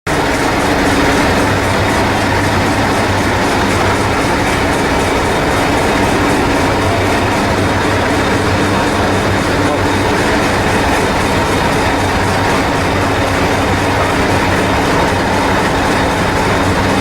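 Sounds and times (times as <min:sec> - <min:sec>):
miniature train rumbling: 0:00.1 - 0:17.0
wheels clattering over rail joints: 0:00.1 - 0:17.0.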